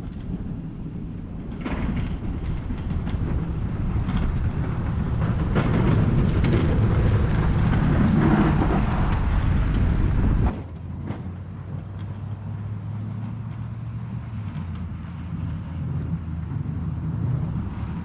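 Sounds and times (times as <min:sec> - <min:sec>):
engine humming: 0:00.0 - 0:18.0
vehicle rumbling: 0:00.0 - 0:18.0.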